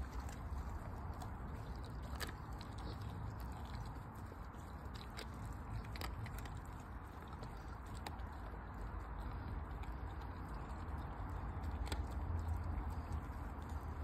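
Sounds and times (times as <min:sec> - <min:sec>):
dog chewing wetly: 0:00.0 - 0:14.0.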